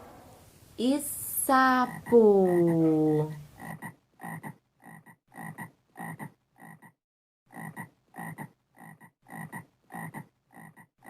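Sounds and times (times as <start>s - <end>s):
frog croaking: 1.8s - 11.0s.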